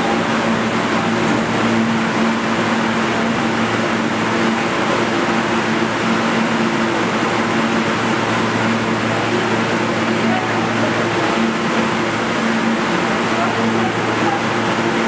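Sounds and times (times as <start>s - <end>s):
subway train hum and hiss: 0.0s - 15.0s.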